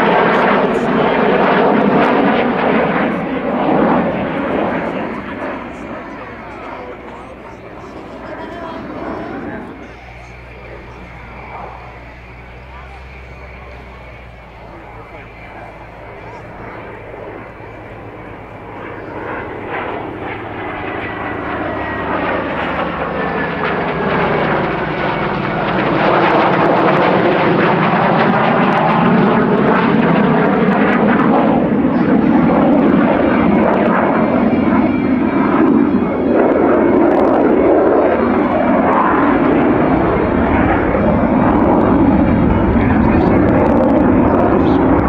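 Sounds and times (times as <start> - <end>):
jet engines rumbling and whining: 0.0 - 45.0.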